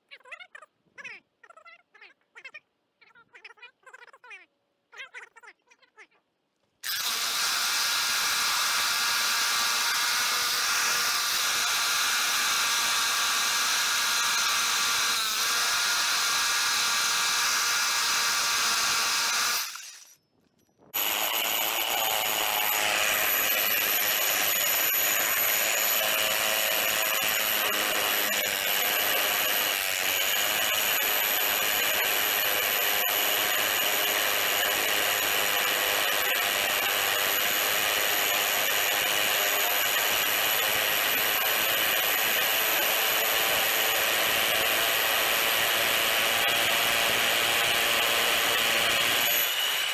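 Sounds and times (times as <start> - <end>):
hammer drill whining through concrete: 6.8 - 49.9.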